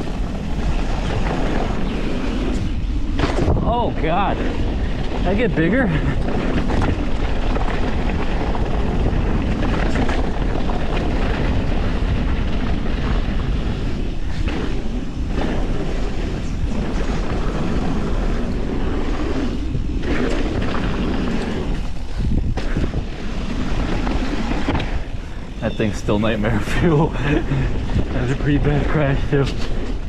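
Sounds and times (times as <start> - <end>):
tyres rolling on dirt: 0.0 - 30.0
wind on microphone: 0.0 - 30.0.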